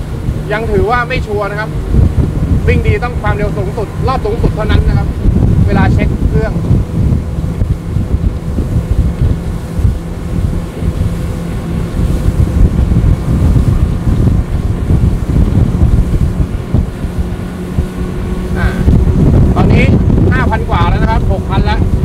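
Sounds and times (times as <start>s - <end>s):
hull and wake rushing: 0.0s - 22.0s
outboard motors running hard: 0.0s - 22.0s
wind buffeting microphone: 0.0s - 22.0s.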